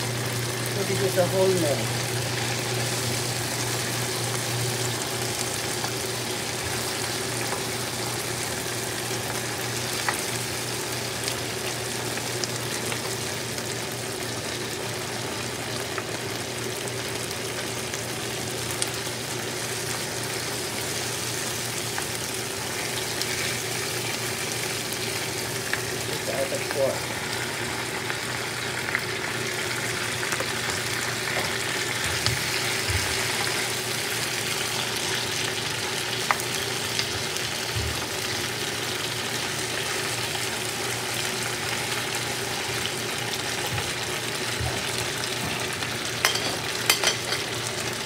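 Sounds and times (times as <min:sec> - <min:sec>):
food sizzling in a frying pan: 0:00.0 - 0:48.0.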